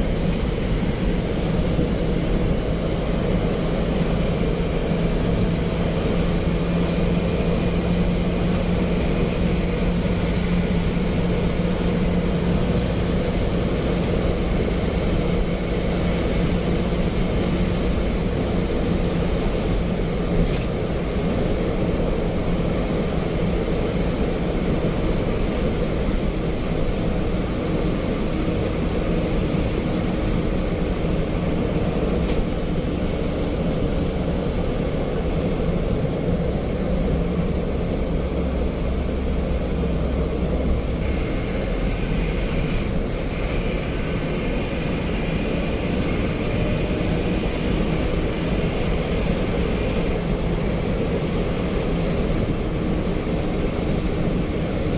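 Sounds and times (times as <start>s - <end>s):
road noise: 0.0s - 54.9s
vehicle engine: 0.0s - 54.9s.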